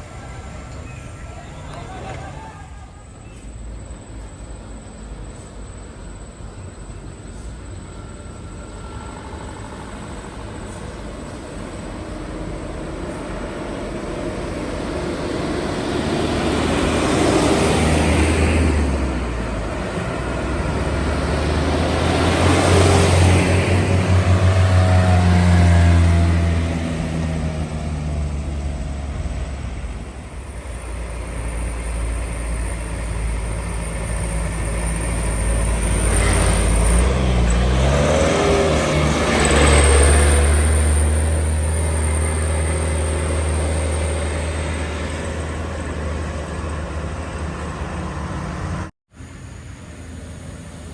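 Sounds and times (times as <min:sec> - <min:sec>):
diesel trucks passing: 0:00.0 - 0:50.9.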